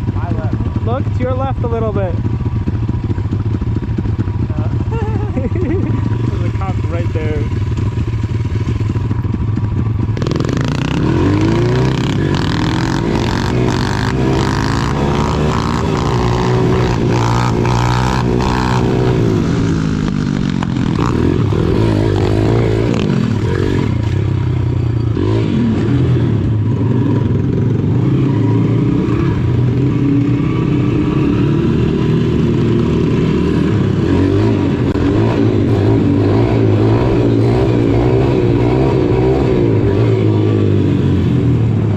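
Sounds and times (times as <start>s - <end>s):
small motorbike engines revving: 0.0s - 41.9s.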